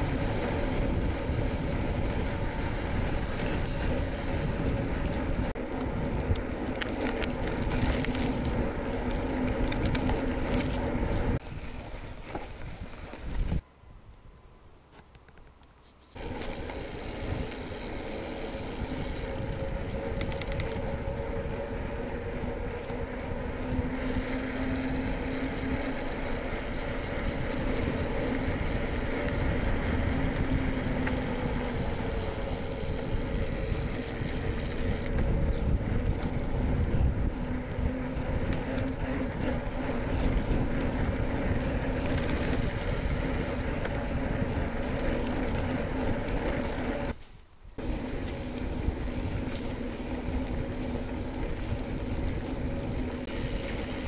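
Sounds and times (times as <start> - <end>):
bicycle tyres rumbling on rough road: 0.0 - 13.6, 16.0 - 54.0
bike rattling: 0.0 - 13.6, 15.3 - 54.0.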